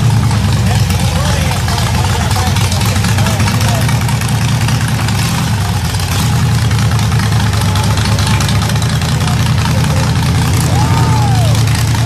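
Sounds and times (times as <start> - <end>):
buggy engine idling: 0.0 - 12.0.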